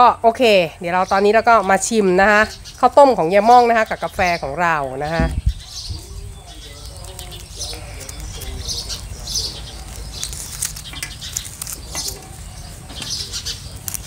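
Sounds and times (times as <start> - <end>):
banana leaves rustling and crackling: 2.5 - 14.0.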